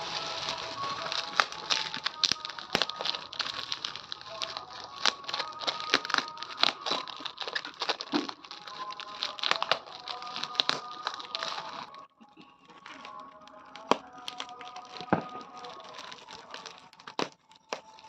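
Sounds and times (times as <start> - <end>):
packaging crinkling: 0.0 - 12.0, 12.6 - 18.0
soft background music: 0.0 - 18.0.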